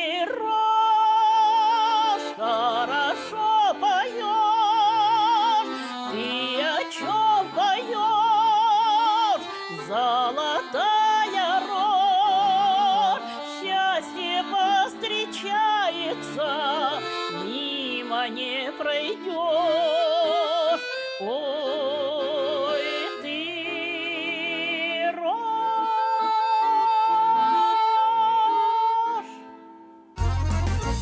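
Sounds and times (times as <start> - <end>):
accordion accompaniment: 0.0 - 31.0
person singing with vibrato: 0.0 - 31.0.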